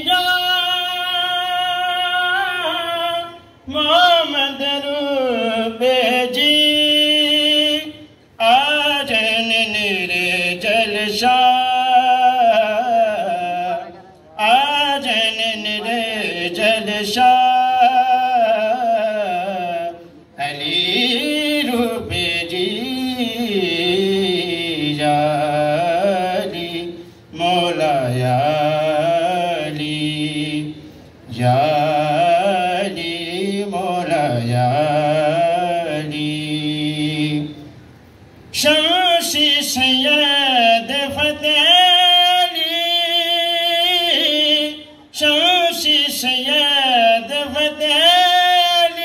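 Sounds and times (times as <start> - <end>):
man singing a hymn: 0.0 - 37.6, 38.5 - 49.0.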